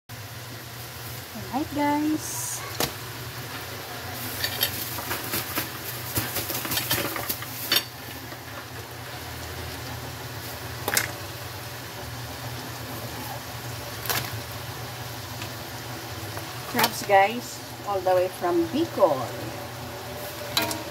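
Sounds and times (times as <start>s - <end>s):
crabs sizzling in a wok: 0.1s - 20.9s.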